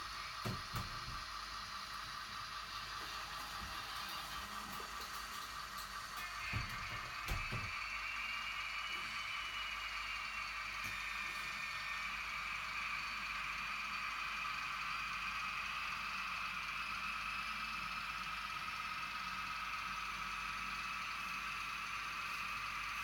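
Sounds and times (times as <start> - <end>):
model train motors whining: 0.0 - 23.0.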